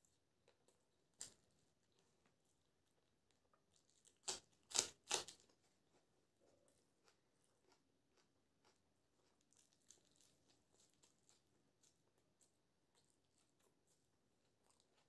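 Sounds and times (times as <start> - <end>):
raw chilli crunching: 0.0 - 15.0.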